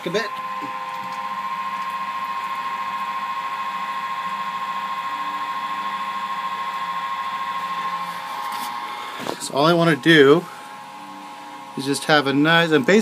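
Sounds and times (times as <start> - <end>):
pump motor whining: 0.0 - 13.0.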